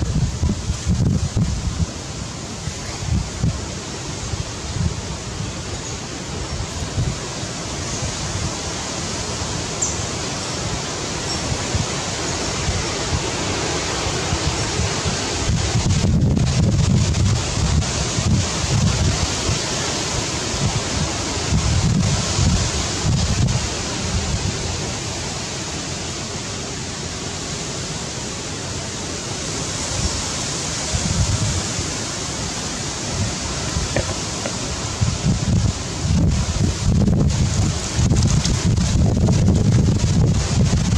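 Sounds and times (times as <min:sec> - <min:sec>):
steady outdoor rushing noise: 0:00.0 - 0:40.9
wind blowing across microphone: 0:00.0 - 0:40.9.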